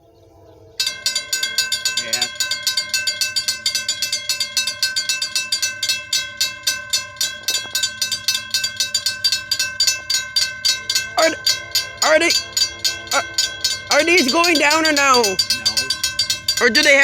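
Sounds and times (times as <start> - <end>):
railroad crossing bell ringing: 0.8 - 17.0.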